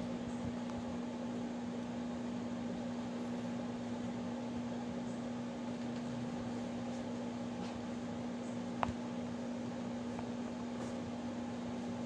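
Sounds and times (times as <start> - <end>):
ceiling fan motor hum: 0.0 - 12.0
rush of turning fan blades: 0.0 - 12.0.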